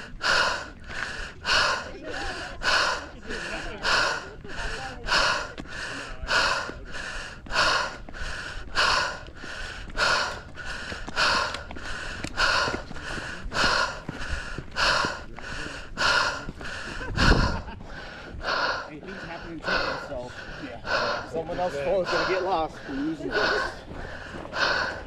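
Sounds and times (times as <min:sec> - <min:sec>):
runner breathing hard: 0:00.0 - 0:25.0.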